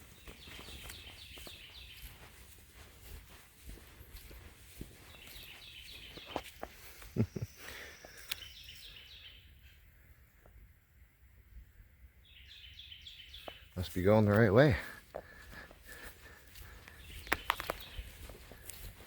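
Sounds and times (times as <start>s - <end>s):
bird chirping: 0.0s - 2.6s, 4.7s - 10.4s, 11.5s - 19.0s
footsteps on trail: 0.0s - 9.2s, 12.7s - 19.0s.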